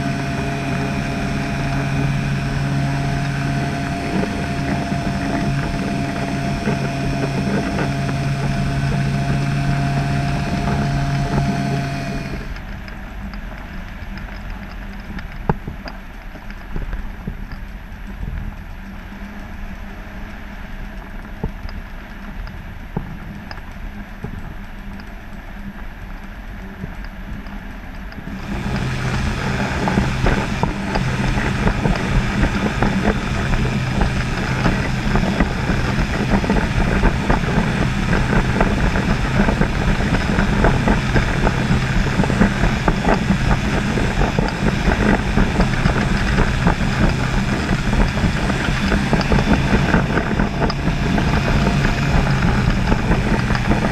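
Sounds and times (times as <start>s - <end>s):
motor humming: 0.0s - 53.9s.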